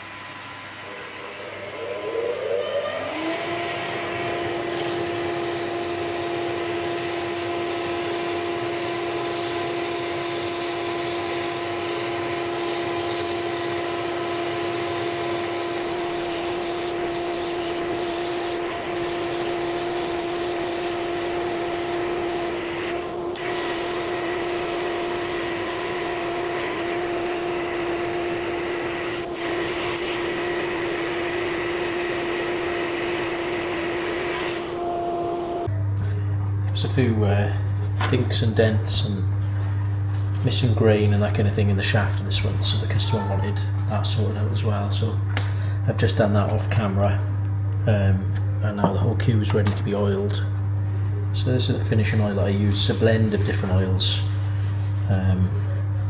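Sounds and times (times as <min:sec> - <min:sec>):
dust extractor running: 0:00.0 - 0:56.0.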